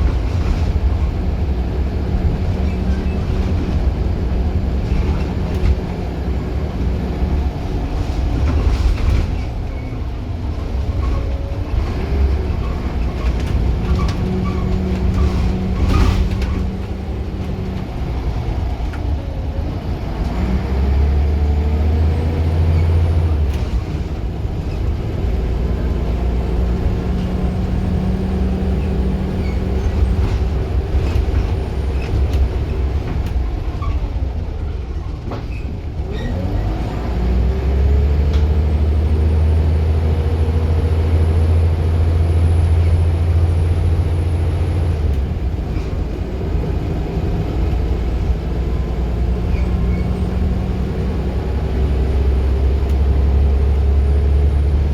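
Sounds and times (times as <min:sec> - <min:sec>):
bus engine and gearbox whine: 0:00.0 - 0:54.9.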